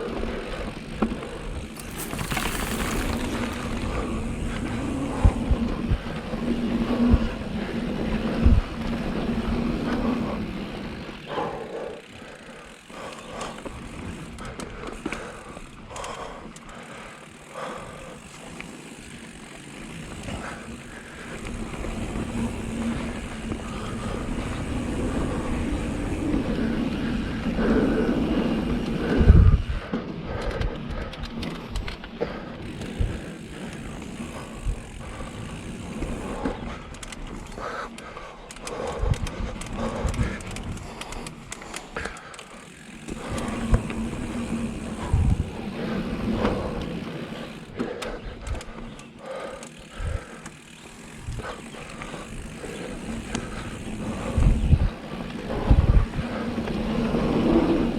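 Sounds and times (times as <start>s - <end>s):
bike rattling and knocking: 0.0s - 11.3s, 12.0s - 57.9s
bike tyres on dirt: 0.0s - 57.9s.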